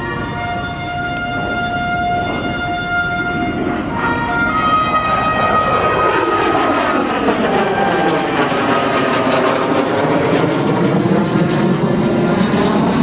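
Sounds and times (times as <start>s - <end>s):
jet engine flying past overhead: 0.0s - 13.0s.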